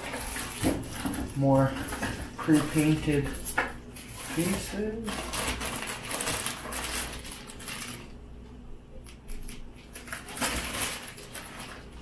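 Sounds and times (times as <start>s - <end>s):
plastic bags crinkling: 0.0s - 8.2s, 9.3s - 12.0s.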